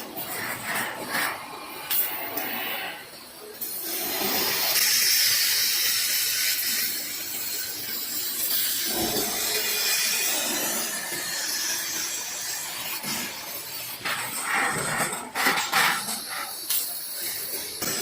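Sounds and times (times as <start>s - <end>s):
laser cutting machine hissing: 0.0s - 18.0s.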